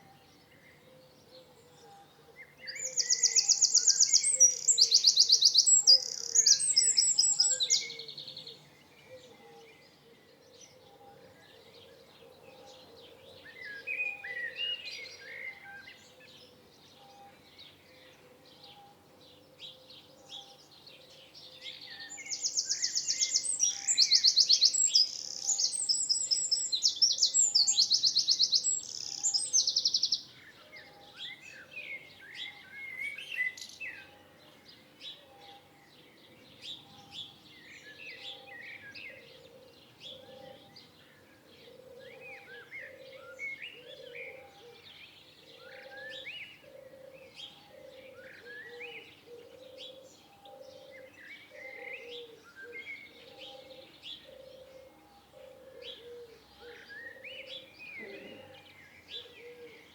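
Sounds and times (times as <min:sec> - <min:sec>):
birds chirping: 0:02.6 - 0:59.9.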